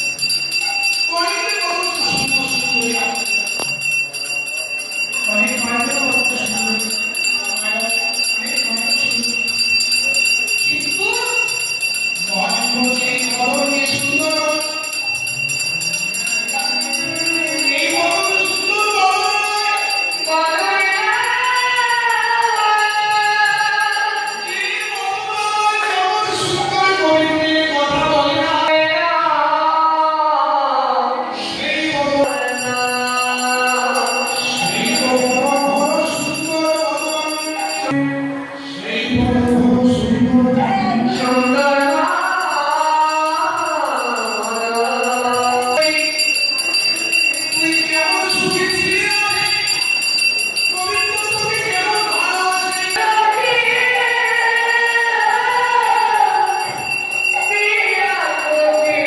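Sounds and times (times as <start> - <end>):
small metal percussion jingling: 0.0 - 25.4, 32.2 - 37.9, 41.1 - 59.0
bright ringing shimmer: 0.0 - 25.5, 32.2 - 38.0, 41.1 - 59.0
voices singing devotional song: 4.9 - 59.0.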